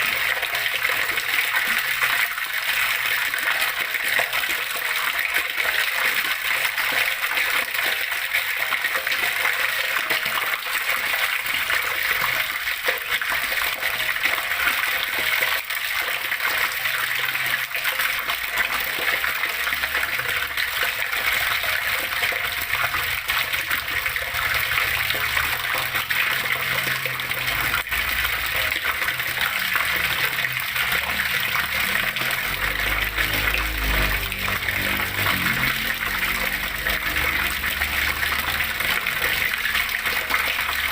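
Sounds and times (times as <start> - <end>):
water flowing and splashing: 0.0 - 40.9.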